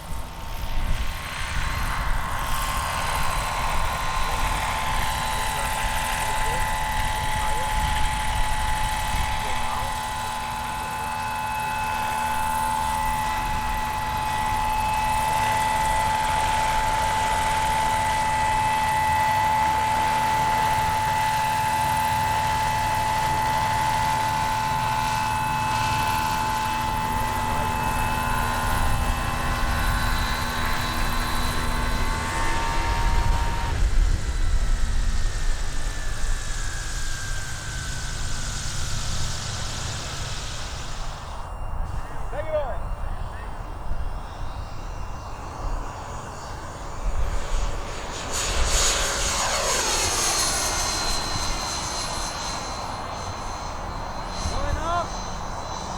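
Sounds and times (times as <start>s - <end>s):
model aircraft motor whining: 0.0s - 55.9s.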